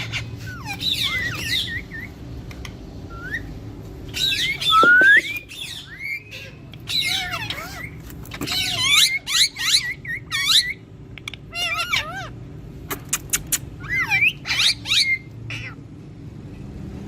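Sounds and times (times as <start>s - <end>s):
parrots chattering and squawking: 0.0s - 16.1s.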